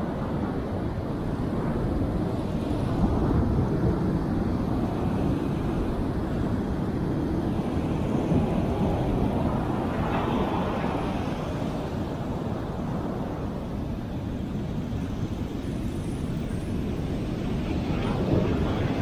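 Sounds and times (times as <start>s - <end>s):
breaking waves rumble: 0.0s - 19.0s.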